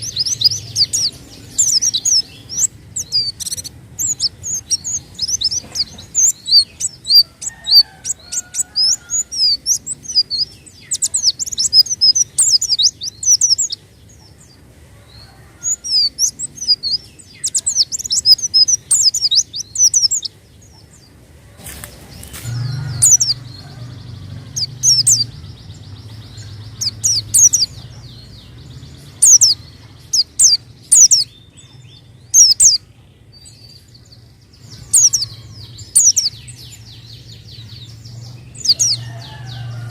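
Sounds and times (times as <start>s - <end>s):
bird twittering chirps: 0.0s - 14.6s, 15.2s - 39.9s.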